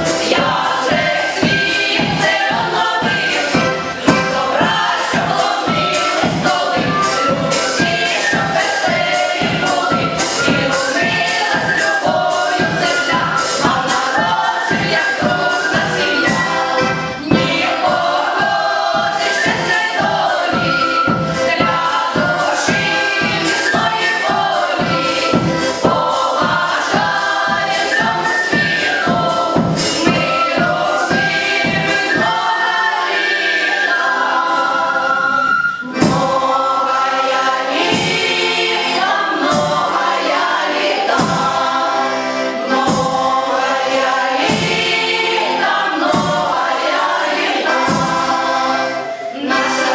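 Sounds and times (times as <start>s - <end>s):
choir singing folk song: 0.0s - 49.9s.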